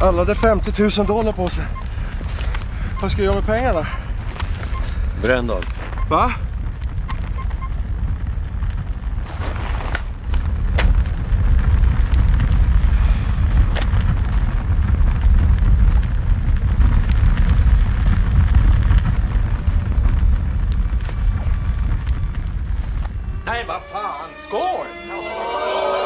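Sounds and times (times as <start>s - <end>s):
fire rumbling and crackling: 0.0s - 26.0s.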